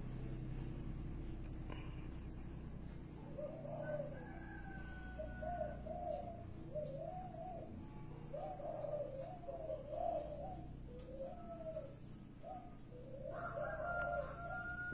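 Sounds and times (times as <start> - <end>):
dove cooing: 0.0 - 14.9.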